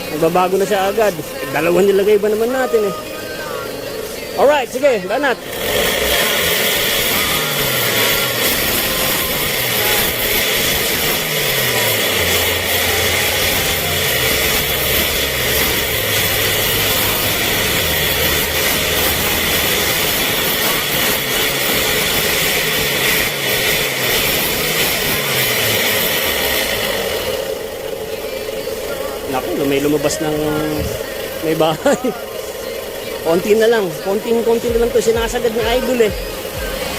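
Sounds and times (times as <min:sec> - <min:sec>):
diesel engine revving hard: 0:03.6 - 0:36.9.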